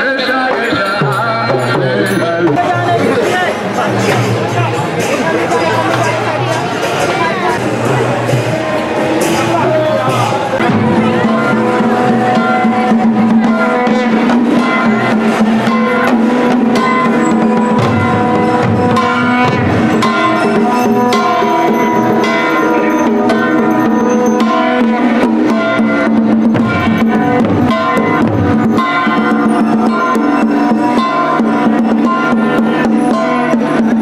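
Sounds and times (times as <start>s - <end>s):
drums: 0.0s - 34.0s
hand cymbals ringing: 0.2s - 34.0s.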